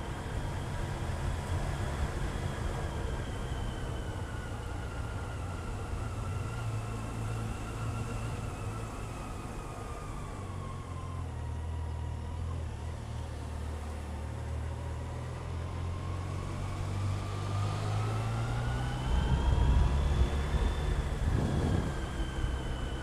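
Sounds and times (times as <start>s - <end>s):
motorcycle engine humming: 0.0s - 11.4s, 12.0s - 23.0s
thin engine whine: 0.0s - 23.0s.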